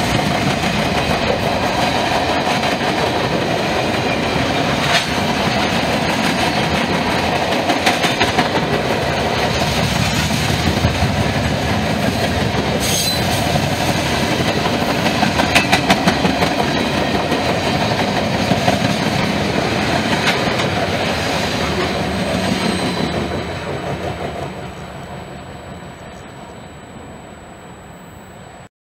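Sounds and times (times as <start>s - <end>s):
wheels clacking over rail joints: 0.0s - 25.3s.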